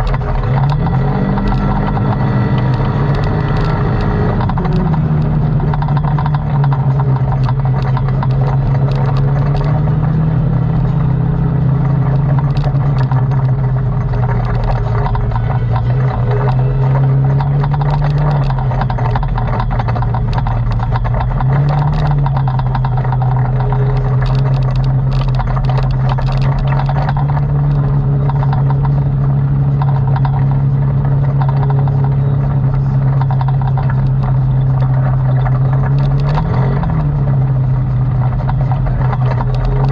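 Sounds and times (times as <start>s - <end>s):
atv engine running: 0.0s - 39.9s
clicks and rattles: 0.0s - 39.9s.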